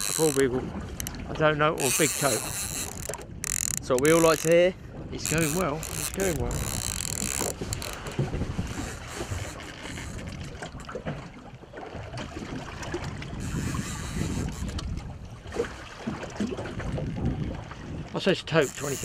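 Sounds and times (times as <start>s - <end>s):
boat hull noise: 0.0s - 19.0s
sea water: 0.0s - 19.0s
wind buffeting microphone: 0.0s - 19.0s.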